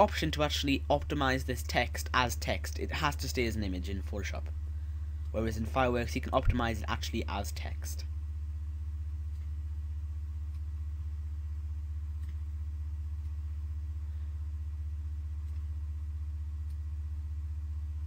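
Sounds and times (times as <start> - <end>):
mains hum: 0.0 - 18.0.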